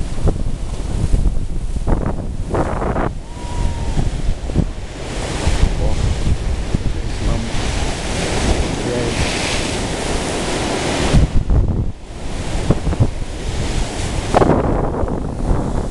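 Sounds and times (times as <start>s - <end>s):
surf breaking on rocks: 0.0s - 15.9s
wind gusting on microphone: 0.0s - 15.9s.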